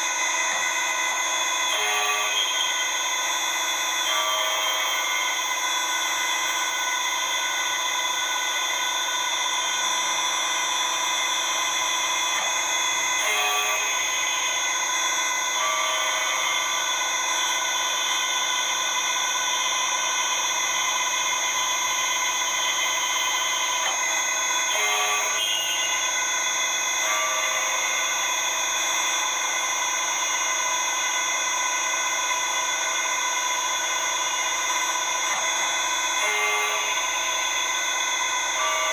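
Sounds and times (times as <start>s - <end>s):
lathe machine whine: 0.0s - 38.9s.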